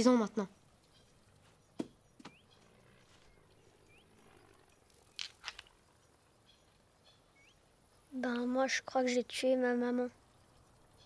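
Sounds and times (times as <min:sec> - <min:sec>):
distant bird chirping: 0:00.0 - 0:11.0.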